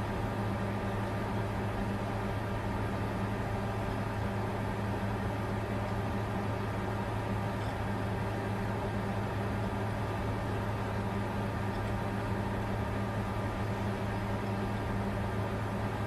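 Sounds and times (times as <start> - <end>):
cooling fan air rush: 0.0 - 16.0.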